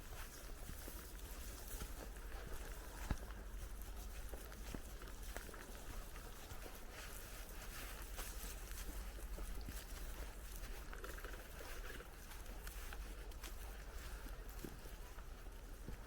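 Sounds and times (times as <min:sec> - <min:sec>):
bicycle tyres crackling on path: 0:00.0 - 0:16.0.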